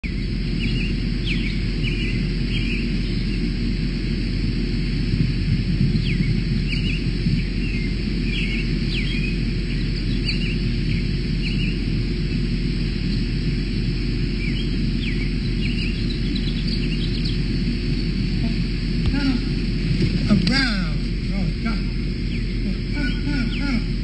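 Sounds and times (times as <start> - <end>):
birds chirping: 0.0 - 5.0, 5.7 - 24.0
steady low rumble: 0.0 - 24.0.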